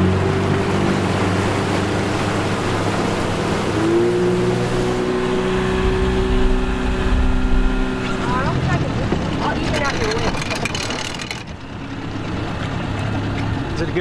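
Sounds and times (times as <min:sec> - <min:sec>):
outboard motor running: 0:00.0 - 0:14.0
water rushing: 0:00.0 - 0:14.0.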